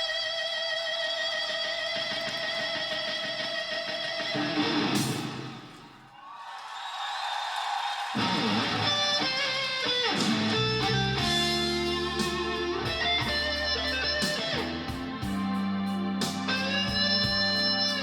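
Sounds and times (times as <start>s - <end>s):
electric guitar bending notes: 0.0s - 6.0s, 8.2s - 18.0s
rock band instrumental on hi-fi: 0.0s - 6.1s, 8.2s - 18.0s.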